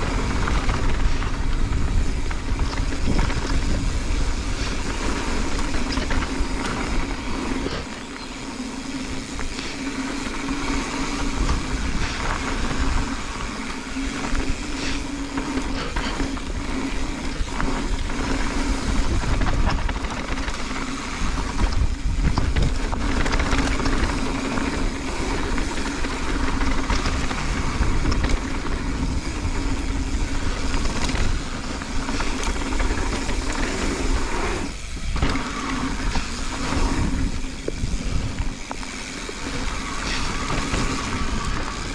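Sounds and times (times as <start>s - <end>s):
bike clicks and rattles: 0.0s - 41.9s
bike tyres rolling over dirt: 0.0s - 41.9s
wind buffeting microphone: 0.0s - 41.9s.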